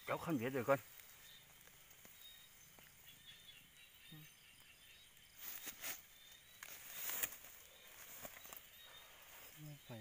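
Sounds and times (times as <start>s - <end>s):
grass and weeds rustling: 0.0s - 10.0s.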